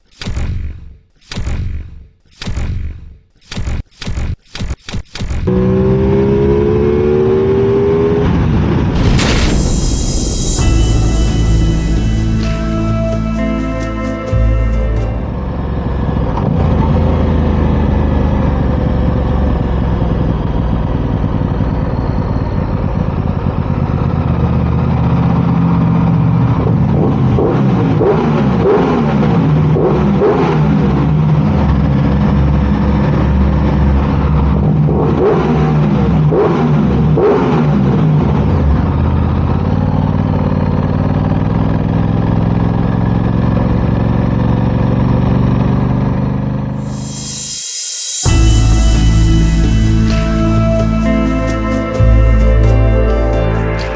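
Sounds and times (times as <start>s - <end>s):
engine revving: 5.2s - 53.9s.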